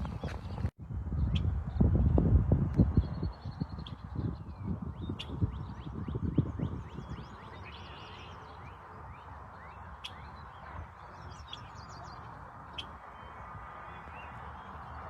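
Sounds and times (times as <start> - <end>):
songbirds chirping: 2.8 - 15.0.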